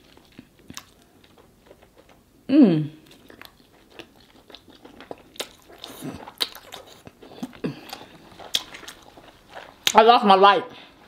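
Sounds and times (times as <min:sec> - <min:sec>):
chewing and wet mouth sounds: 0:00.0 - 0:11.0.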